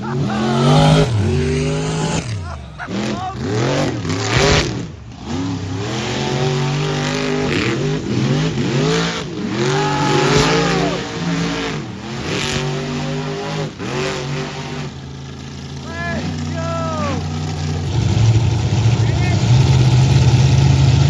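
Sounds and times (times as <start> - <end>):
monster truck engines revving: 0.0 - 21.0.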